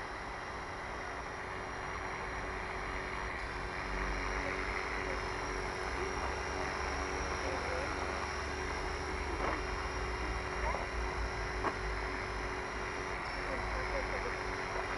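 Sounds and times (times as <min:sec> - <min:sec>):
electric model motors whining: 0:00.0 - 0:14.9.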